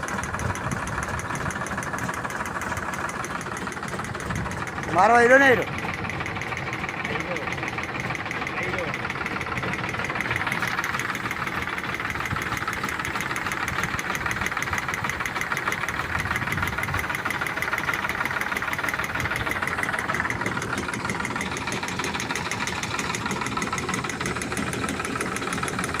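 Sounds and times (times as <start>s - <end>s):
pump engine running steadily: 0.0s - 26.0s.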